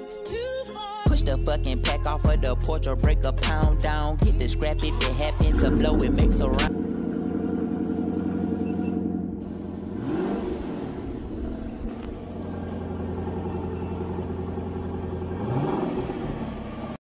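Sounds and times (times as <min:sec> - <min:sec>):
car engine idling and revving: 0:01.1 - 0:17.0.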